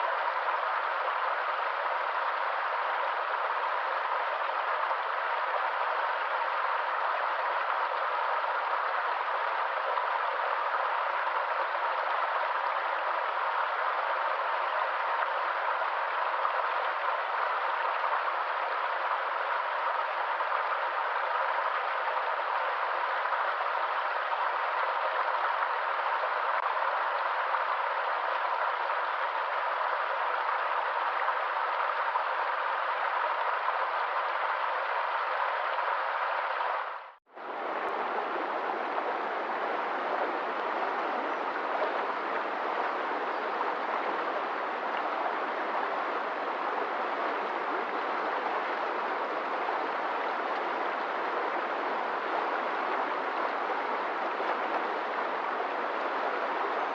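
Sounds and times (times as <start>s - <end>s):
water rushing: 0.0s - 56.9s.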